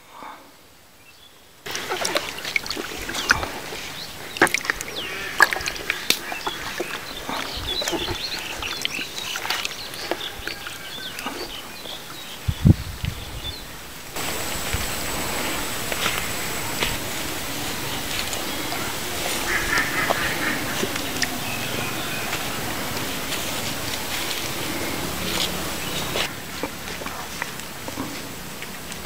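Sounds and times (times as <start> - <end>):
birds chirping: 1.0 - 29.0
water splashing in a plastic bucket: 1.7 - 12.4, 14.1 - 29.0.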